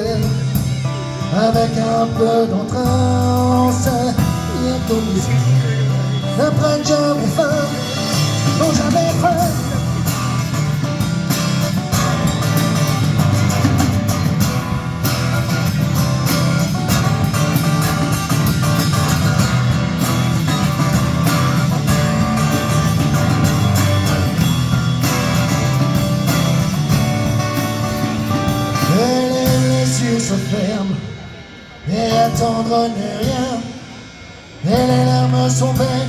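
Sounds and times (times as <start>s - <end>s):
drums: 0.0s - 36.0s
electric guitar playing: 0.0s - 36.0s.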